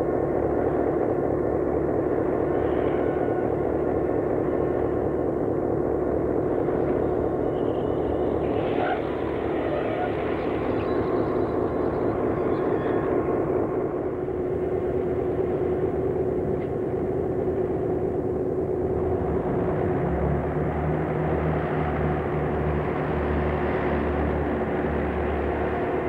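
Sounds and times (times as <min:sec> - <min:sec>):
deep pulsing engine note: 0:00.0 - 0:26.0
diesel train engine drone: 0:00.0 - 0:26.0.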